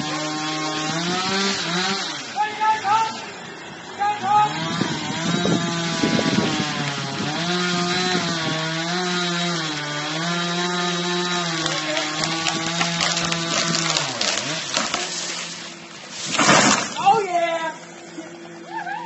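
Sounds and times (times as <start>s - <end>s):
chainsaw cutting wood: 0.0s - 17.2s.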